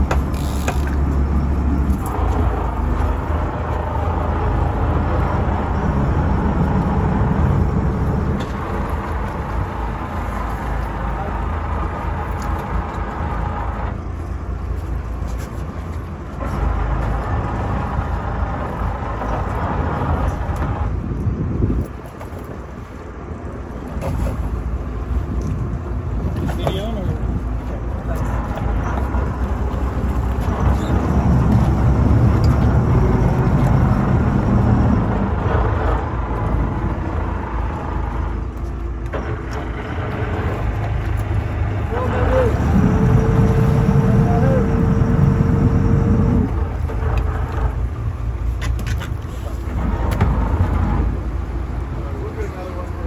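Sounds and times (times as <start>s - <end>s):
boat engine running: 0.0s - 53.0s
water noise: 0.0s - 53.0s
wind: 0.0s - 53.0s.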